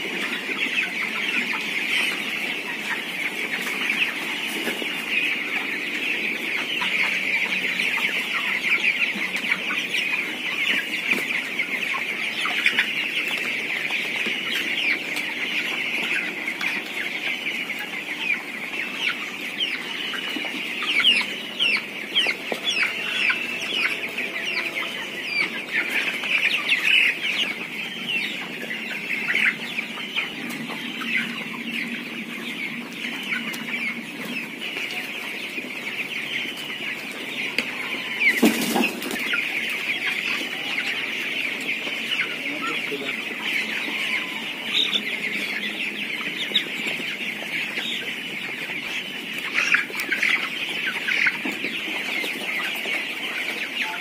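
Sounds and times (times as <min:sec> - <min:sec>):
chickens peeping: 0:00.0 - 0:54.0.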